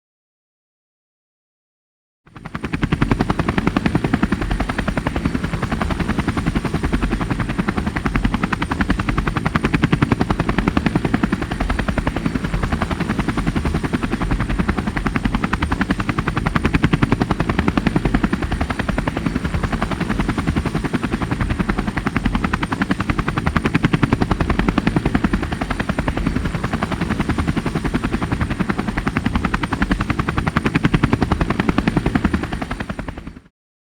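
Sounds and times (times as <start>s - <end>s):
helicopter rotor chopping: 2.4s - 33.5s.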